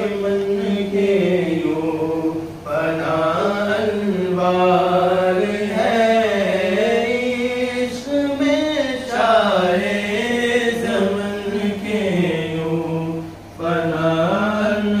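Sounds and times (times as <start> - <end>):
man singing devotional song: 0.0 - 15.0.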